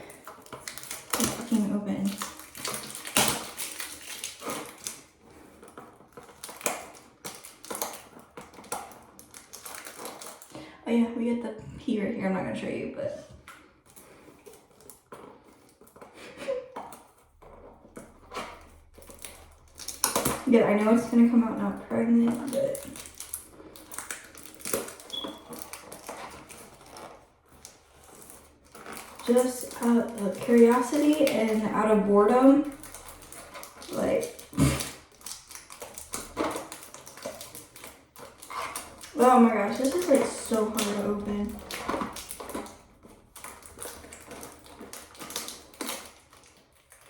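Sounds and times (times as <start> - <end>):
plastic packaging crinkling: 0.0 - 10.8, 13.4 - 47.0.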